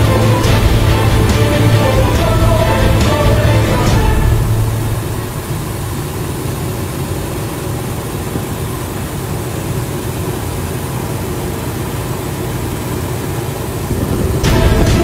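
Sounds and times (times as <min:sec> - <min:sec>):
even hiss: 0:00.0 - 0:15.0
helicopter engine and rotor drone: 0:00.0 - 0:15.0.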